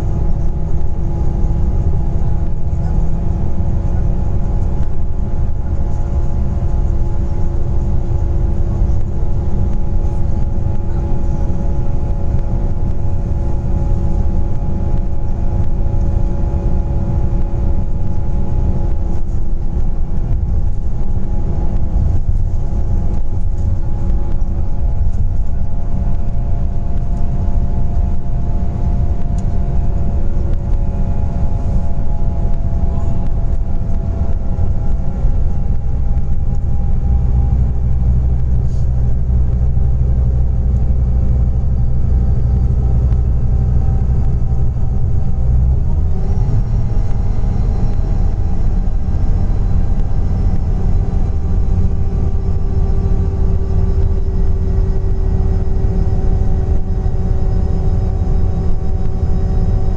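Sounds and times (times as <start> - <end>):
bus engine drone: 0.0 - 59.9
steady whining tones: 0.0 - 59.9.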